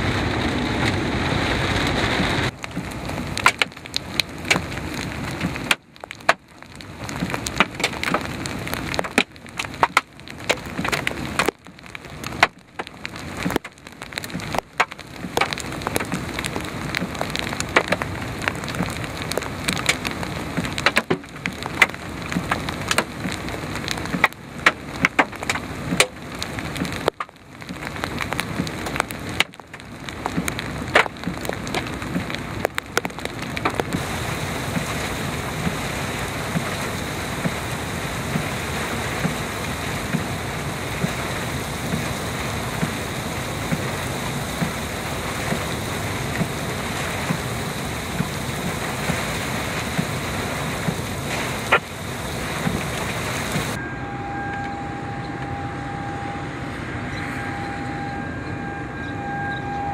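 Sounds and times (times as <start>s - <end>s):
hailstones cracking and knocking: 0.0s - 53.8s
steady hail patter: 0.0s - 53.8s
rush inside a moving car: 0.0s - 59.9s.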